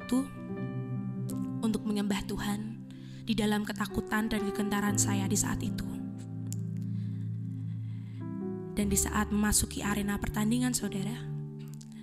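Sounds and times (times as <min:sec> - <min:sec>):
soft sustained chord: 0:00.0 - 0:12.0.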